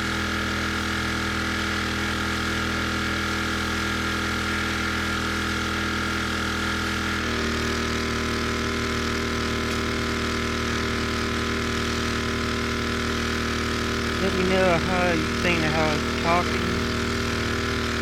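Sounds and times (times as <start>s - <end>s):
pressure washer engine running: 0.0s - 18.0s.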